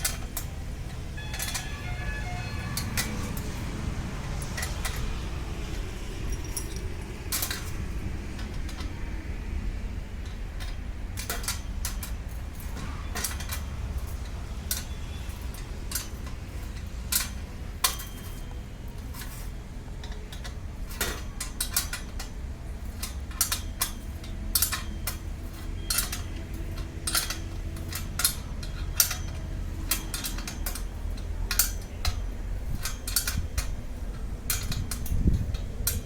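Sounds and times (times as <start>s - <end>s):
metallic clicks and clinks: 0.0s - 9.0s, 9.6s - 36.0s
steady low rumble: 0.0s - 36.0s.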